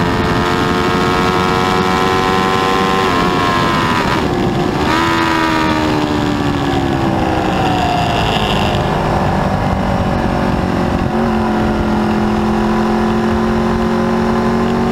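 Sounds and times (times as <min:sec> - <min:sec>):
motorcycle engine at speed: 0:00.0 - 0:14.9
steady rushing noise: 0:00.0 - 0:14.9.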